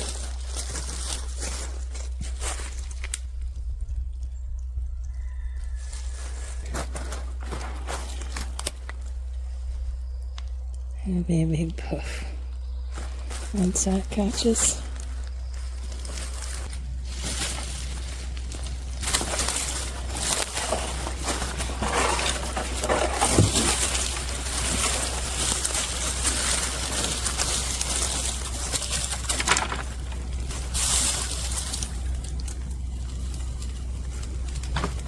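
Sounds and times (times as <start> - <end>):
brush fire crackling: 0.0 - 5.2, 6.5 - 35.0.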